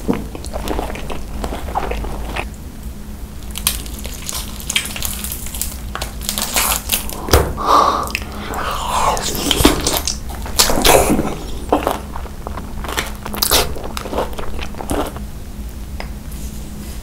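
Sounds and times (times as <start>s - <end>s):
person chewing crunchy food: 0.0s - 2.6s, 3.4s - 15.4s.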